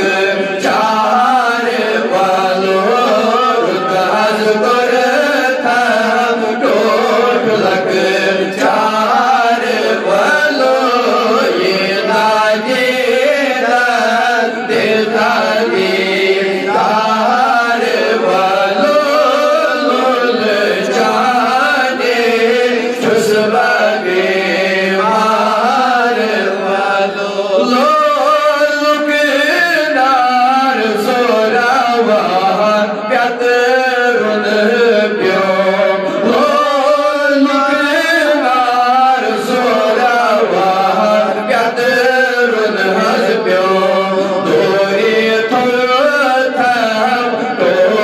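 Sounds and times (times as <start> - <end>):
man chanting into a microphone: 0.0 - 48.0.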